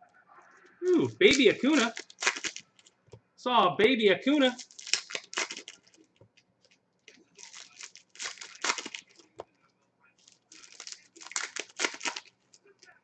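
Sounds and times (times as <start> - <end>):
cards and plastic holders rustling: 0.8 - 13.0.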